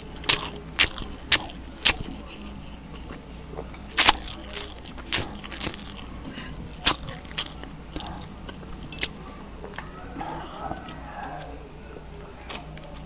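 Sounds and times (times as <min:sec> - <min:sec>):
chewing noodles: 0:00.0 - 0:11.6.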